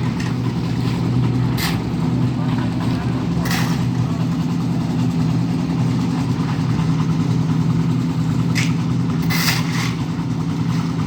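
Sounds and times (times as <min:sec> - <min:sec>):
concrete mixer engine running: 0:00.0 - 0:11.0.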